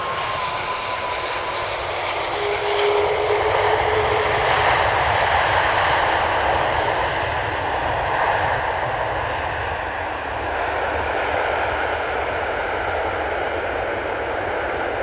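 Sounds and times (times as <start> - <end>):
jet engines reverse thrust: 0.0 - 15.0.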